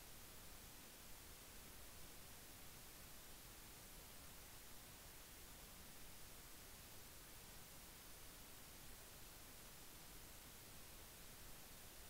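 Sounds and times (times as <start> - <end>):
faint recording hiss: 0.0 - 12.0.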